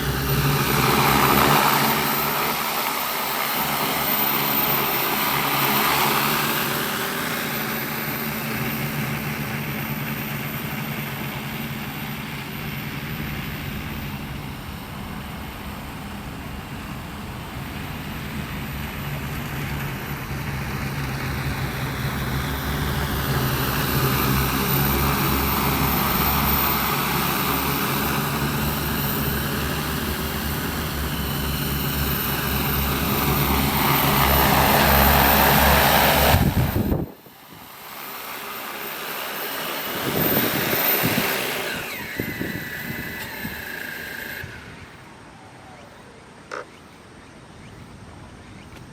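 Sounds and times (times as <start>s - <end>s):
drone rotors whirring: 0.0s - 48.9s.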